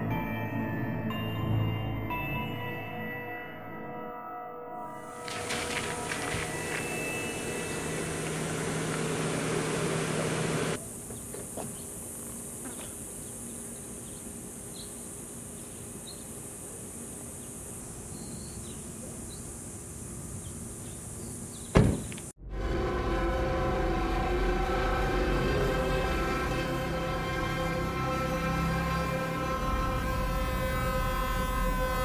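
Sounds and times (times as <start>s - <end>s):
outdoor ambience: 0.0s - 32.0s.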